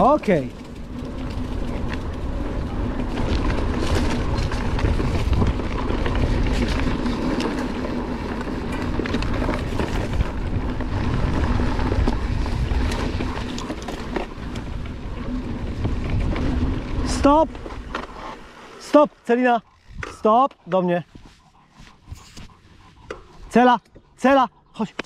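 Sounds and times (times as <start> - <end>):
bike clicks and rattles: 0.0 - 25.0
wind noise on microphone: 0.8 - 18.1, 19.7 - 20.2, 21.1 - 23.4.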